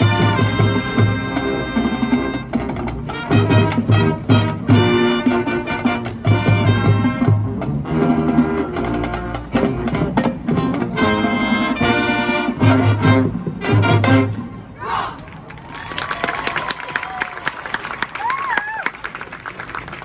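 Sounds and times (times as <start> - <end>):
marching band brass: 0.0 - 14.8, 15.6 - 20.0.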